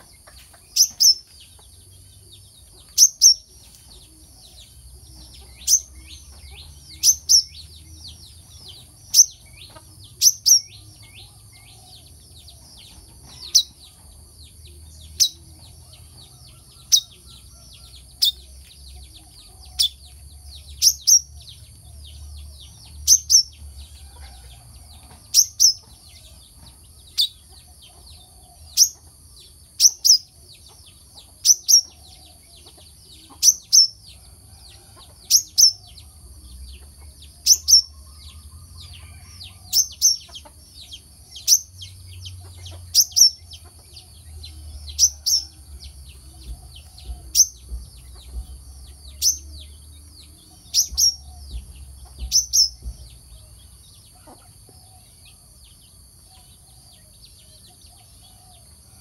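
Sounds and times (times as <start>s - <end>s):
bird high chirps: 0.0s - 23.6s, 25.0s - 34.1s, 36.8s - 55.4s.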